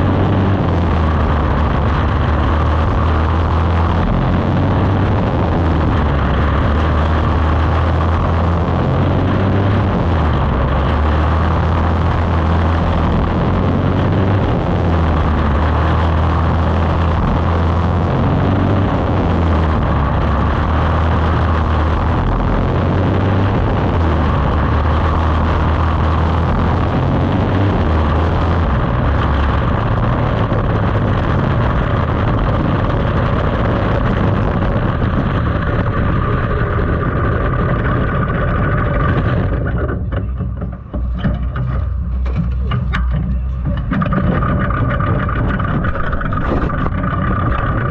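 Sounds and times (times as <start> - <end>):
racing engines revving: 0.0 - 47.9.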